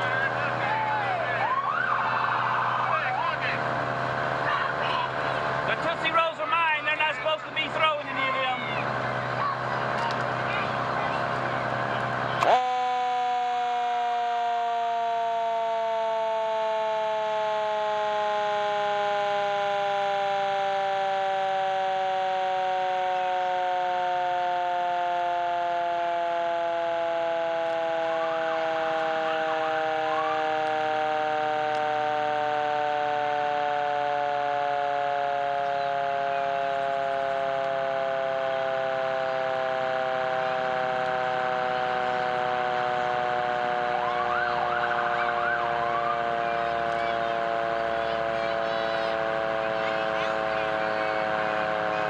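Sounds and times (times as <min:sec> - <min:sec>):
fire truck siren: 0:00.0 - 0:52.0.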